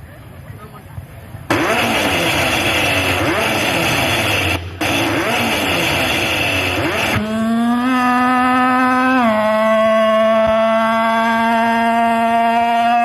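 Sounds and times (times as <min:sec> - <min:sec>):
car engine revving: 0:01.5 - 0:13.0.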